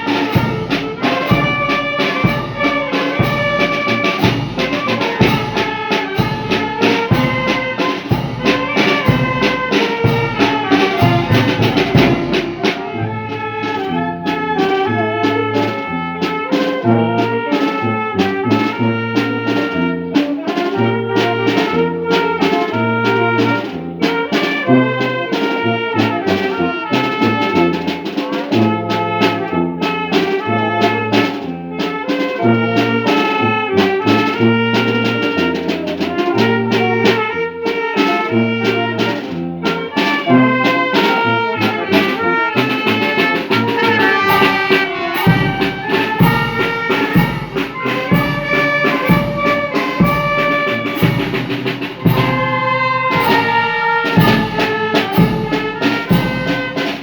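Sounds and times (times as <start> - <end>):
brass band playing: 0.0 - 57.0
steady drum beat: 0.0 - 57.0.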